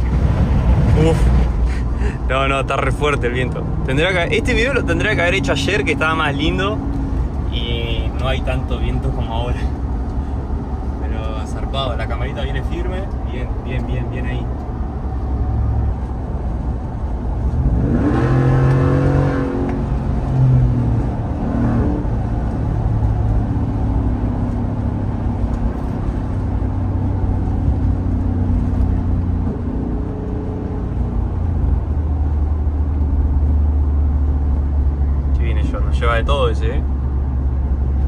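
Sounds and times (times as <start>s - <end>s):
car engine revving through open exhaust: 0.0s - 38.0s.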